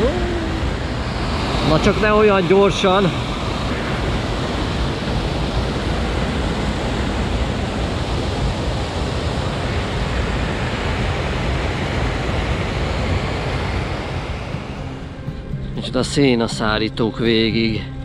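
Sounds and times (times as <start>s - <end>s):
wind rushing over microphone: 0.0s - 17.7s.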